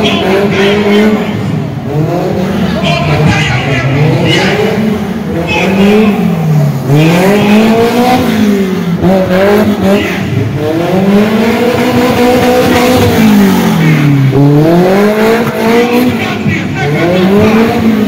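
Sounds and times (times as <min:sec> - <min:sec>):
car engine revving hard: 0:00.0 - 0:18.0.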